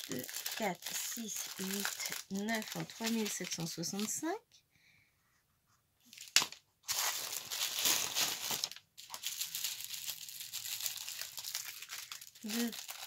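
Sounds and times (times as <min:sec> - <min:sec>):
plastic bags crinkling: 0:00.0 - 0:04.3, 0:06.1 - 0:13.0.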